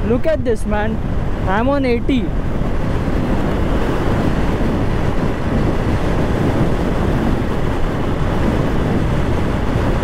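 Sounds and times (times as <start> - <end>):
motorcycle road noise: 0.0 - 10.0
wind blast over microphone: 0.0 - 10.0.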